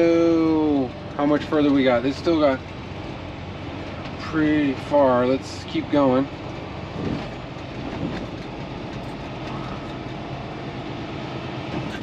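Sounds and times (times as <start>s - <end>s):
diesel engine drone: 0.0s - 12.0s.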